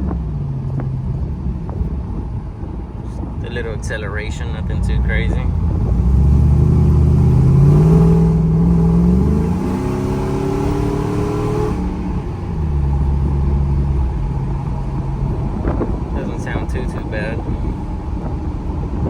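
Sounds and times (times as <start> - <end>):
truck engine accelerating: 0.0 - 19.0
wind noise: 0.0 - 19.0.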